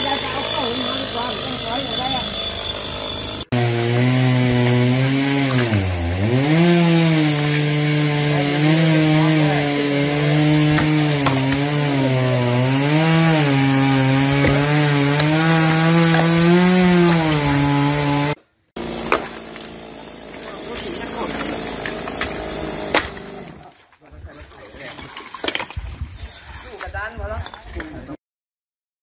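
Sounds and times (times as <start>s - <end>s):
chainsaw cutting under load: 0.0s - 23.7s.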